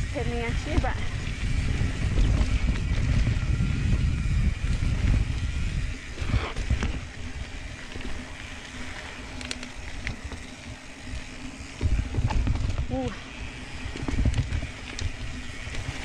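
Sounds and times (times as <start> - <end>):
wind buffeting microphone: 0.0 - 8.5, 9.2 - 16.0
bike tyres rolling over trail: 0.0 - 16.0.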